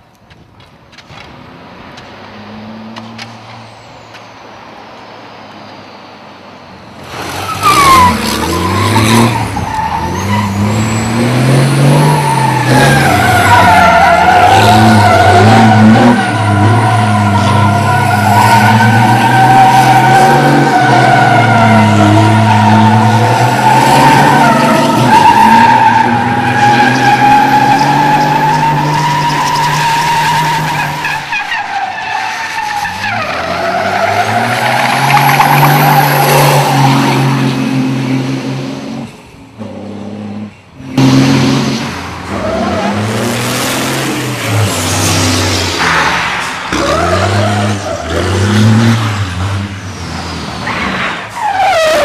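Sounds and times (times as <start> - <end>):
diesel engine revving: 7.0 - 31.1, 32.8 - 52.0.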